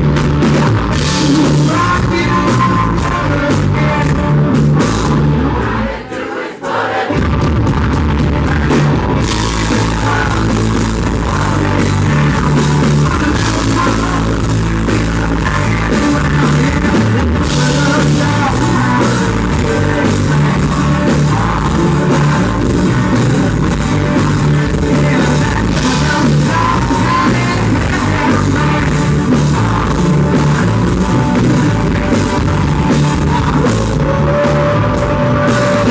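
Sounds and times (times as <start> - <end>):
country rock band playing live: 0.0 - 35.9.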